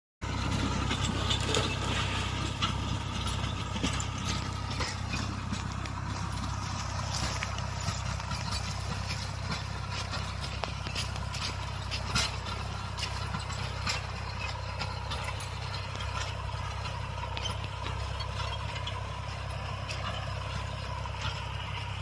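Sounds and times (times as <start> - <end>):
light clanks and rattles: 0.2 - 22.0
tractor diesel engine running: 0.2 - 22.0.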